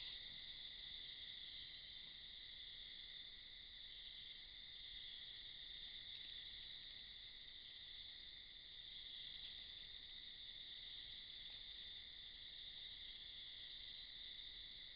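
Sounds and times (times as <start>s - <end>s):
crickets trilling: 0.0s - 14.9s.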